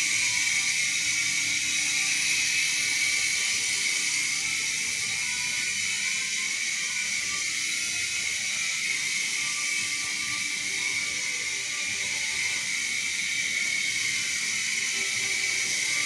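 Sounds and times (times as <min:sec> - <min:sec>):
toy helicopter rotors whirring: 0:00.0 - 0:16.0.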